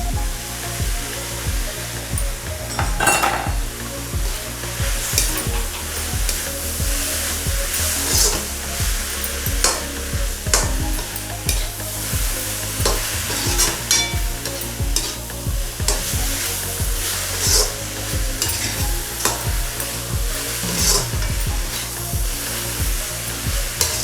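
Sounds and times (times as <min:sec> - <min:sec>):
vegetables sizzling in a pan: 0:00.4 - 0:24.0.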